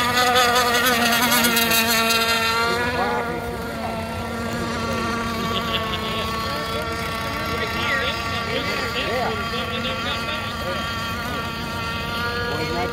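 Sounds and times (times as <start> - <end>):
model boat engines buzzing whine: 0.0 - 12.9.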